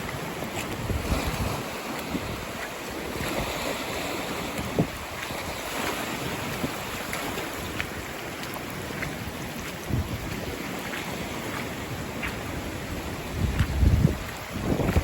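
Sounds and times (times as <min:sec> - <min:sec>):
strong wind roaring: 0:00.0 - 0:08.1, 0:08.9 - 0:15.0
rushing water: 0:00.0 - 0:15.0
wind buffeting microphone: 0:00.0 - 0:15.0.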